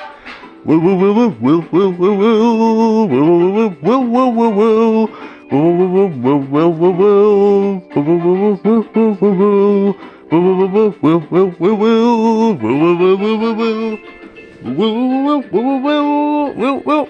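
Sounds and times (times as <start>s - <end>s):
man beatboxing: 0.4s - 14.0s, 14.7s - 17.0s.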